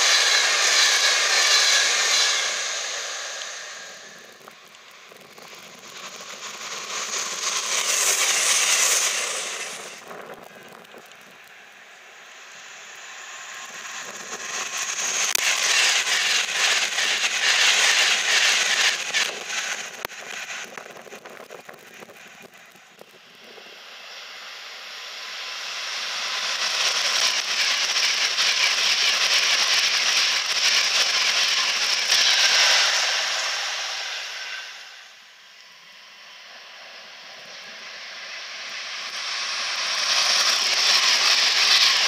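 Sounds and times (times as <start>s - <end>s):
trains passing at speed: 0.0s - 42.0s.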